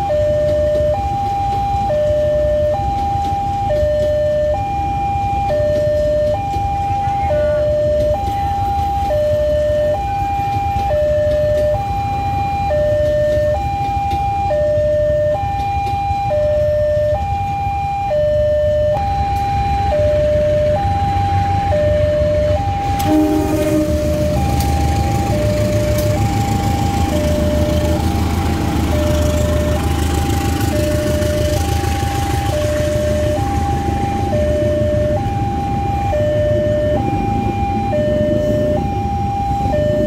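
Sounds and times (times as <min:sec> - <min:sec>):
level crossing two-tone alarm: 0:00.0 - 0:40.0
locomotive low rumble: 0:00.0 - 0:40.0.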